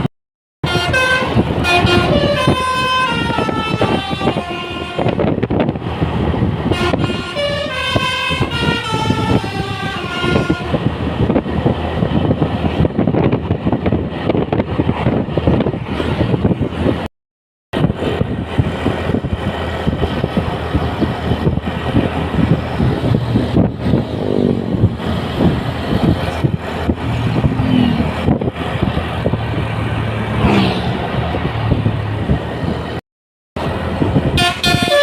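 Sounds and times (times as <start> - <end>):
road and wind noise: 0.0 - 17.1, 17.7 - 33.0, 33.6 - 35.0
vehicle engines droning: 0.6 - 17.1, 17.8 - 33.0, 33.6 - 35.0.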